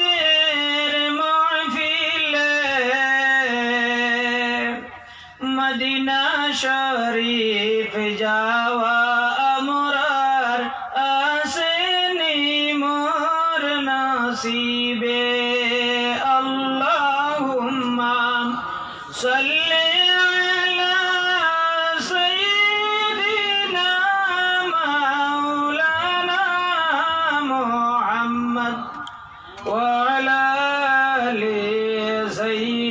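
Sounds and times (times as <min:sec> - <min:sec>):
man singing devotional chant: 0:00.0 - 0:32.9.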